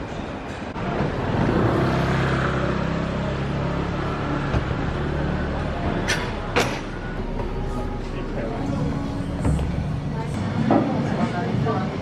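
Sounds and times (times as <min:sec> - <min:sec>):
vehicle engine running nearby: 0:00.5 - 0:11.9.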